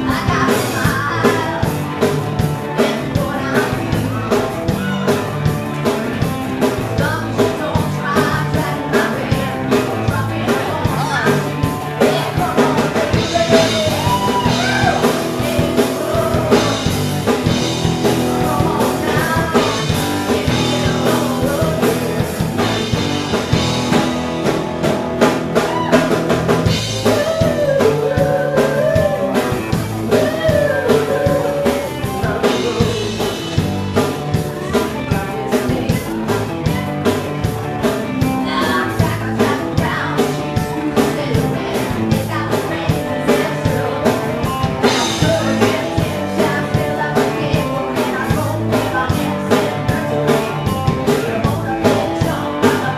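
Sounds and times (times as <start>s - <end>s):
woman singing: 0.0s - 5.2s, 6.1s - 23.3s, 26.9s - 33.7s, 34.3s - 52.9s
live rock band playing: 0.0s - 52.9s.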